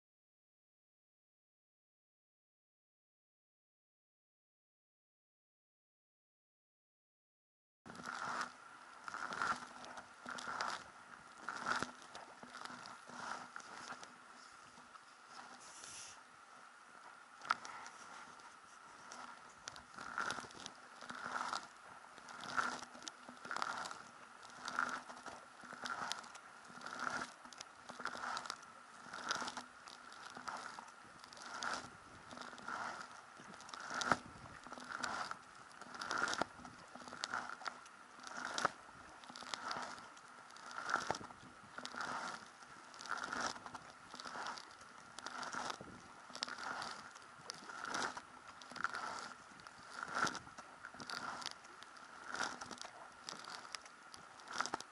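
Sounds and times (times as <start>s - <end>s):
kayak paddle splashing: 7.9s - 54.9s.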